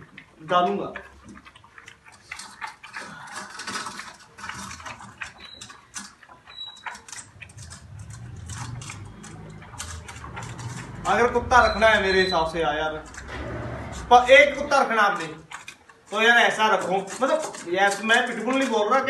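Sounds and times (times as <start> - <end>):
dog eating from steel bowl: 0.0 - 19.0.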